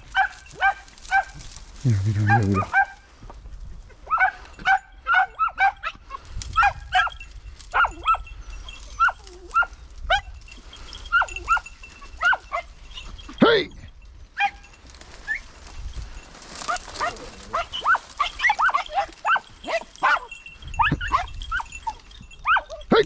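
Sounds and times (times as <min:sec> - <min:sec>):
hounds yelping: 0:00.0 - 0:03.1, 0:03.9 - 0:23.0.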